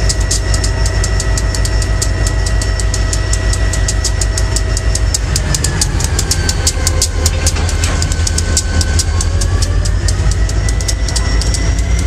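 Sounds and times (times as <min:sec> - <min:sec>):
diesel locomotive rumbling: 0:00.0 - 0:12.0
faint steady tones: 0:00.0 - 0:12.0.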